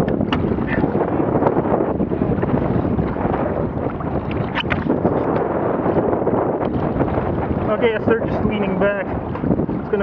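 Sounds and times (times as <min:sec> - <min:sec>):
water lapping against hull: 0:00.0 - 0:10.0
wind buffeting microphone: 0:00.0 - 0:10.0.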